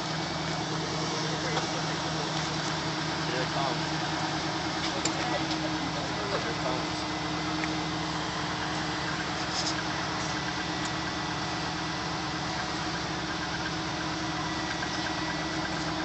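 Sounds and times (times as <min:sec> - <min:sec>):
car engine idling at low revs: 0:00.0 - 0:16.0.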